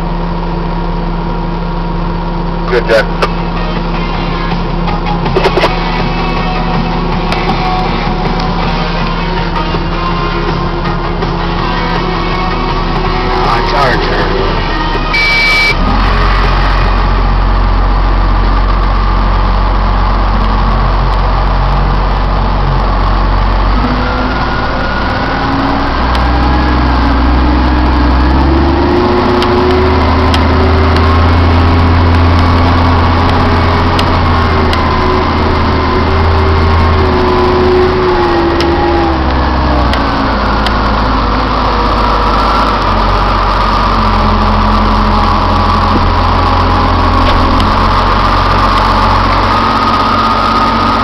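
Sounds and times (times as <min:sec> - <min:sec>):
diesel truck engine accelerating: 0:00.0 - 0:51.0.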